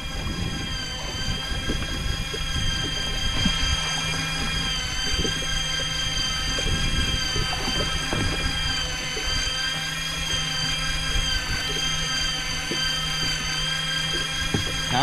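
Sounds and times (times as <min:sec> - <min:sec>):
fishing reel motor whining: 0:00.0 - 0:15.0
low rumble: 0:00.0 - 0:15.0.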